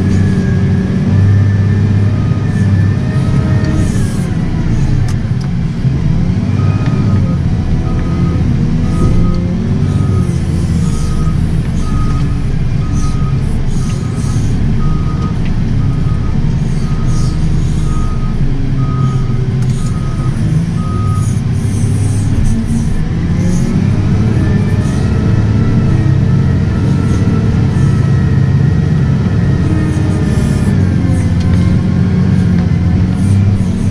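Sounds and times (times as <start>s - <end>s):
reversing alarm beeping: 0.0s - 4.2s, 6.6s - 23.1s, 23.7s - 32.4s
diesel engine running: 0.0s - 33.9s.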